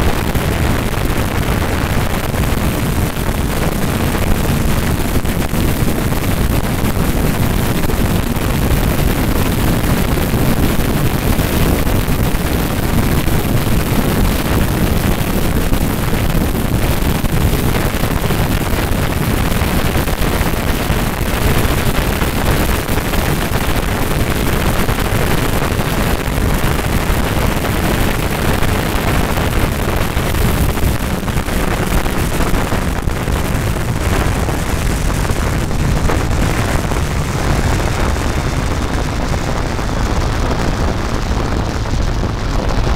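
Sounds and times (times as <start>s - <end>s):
motorcycle engine running: 0.0s - 42.9s
wind buffeting microphone: 0.0s - 42.9s.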